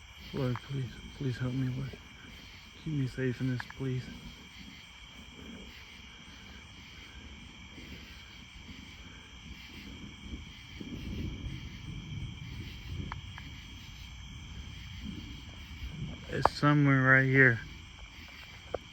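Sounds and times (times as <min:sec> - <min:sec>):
distant thunder rolling: 0:00.0 - 0:18.9
night insects chorus: 0:00.0 - 0:18.9.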